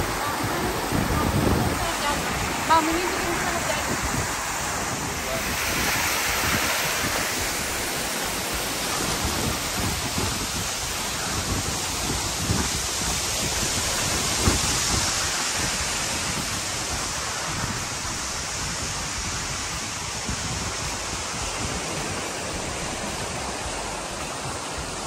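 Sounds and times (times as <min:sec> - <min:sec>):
waterfall roaring: 0:00.0 - 0:25.0
wind rumbling on microphone: 0:00.0 - 0:25.0.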